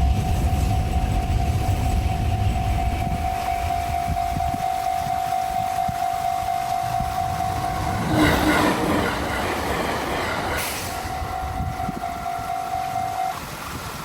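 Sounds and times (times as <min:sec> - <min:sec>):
crossing warning bell ringing: 0:00.0 - 0:13.4
train wheels rumbling on rails: 0:00.0 - 0:14.0.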